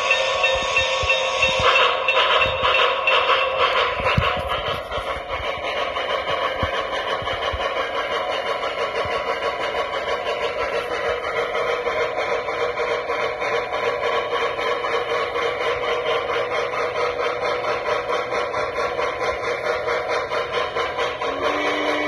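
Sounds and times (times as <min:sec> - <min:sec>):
steam chuffs: 0:00.0 - 0:22.0.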